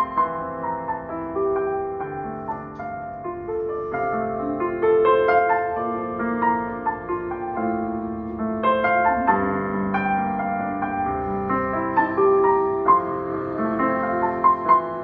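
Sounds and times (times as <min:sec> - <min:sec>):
electronic keyboard piano music: 0:00.0 - 0:15.0.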